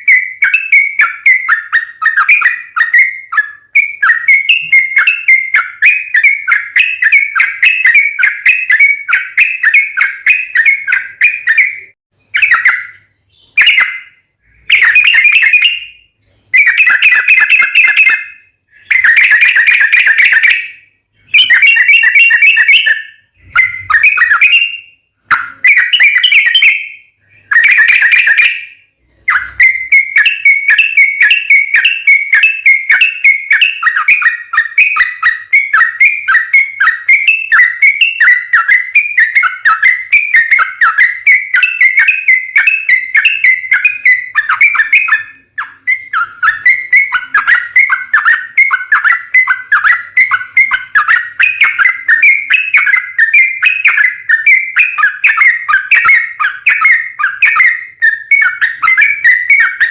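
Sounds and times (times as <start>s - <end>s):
bird singing fast whistled notes: 0.0s - 59.9s.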